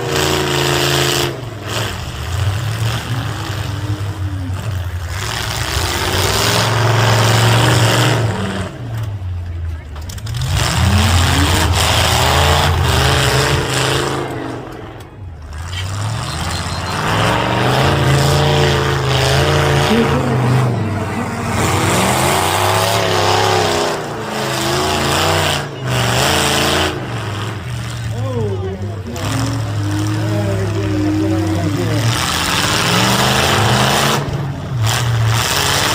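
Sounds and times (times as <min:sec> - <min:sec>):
car engines revving hard: 0:00.0 - 0:35.9.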